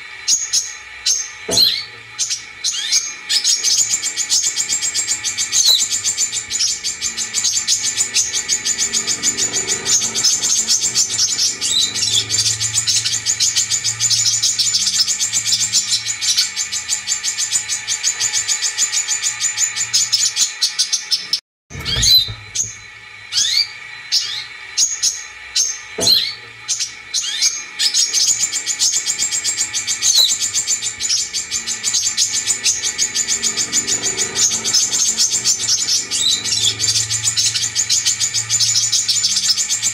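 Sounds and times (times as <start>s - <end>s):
bird twittering chatter: 0.2s - 39.9s
sharp bird chirps: 0.3s - 39.9s.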